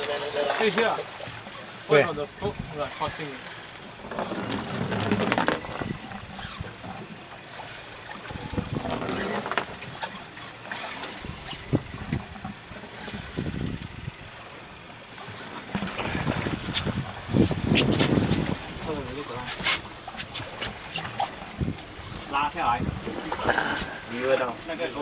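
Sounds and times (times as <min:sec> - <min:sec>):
water slapping against boat hull: 0:00.0 - 0:14.3, 0:15.0 - 0:25.0.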